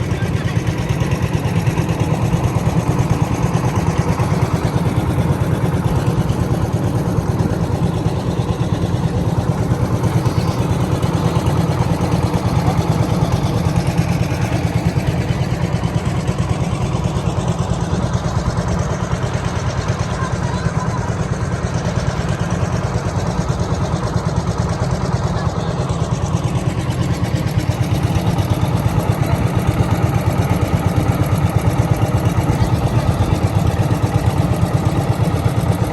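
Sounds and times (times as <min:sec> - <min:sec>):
boat engine throbbing: 0:00.0 - 0:35.9.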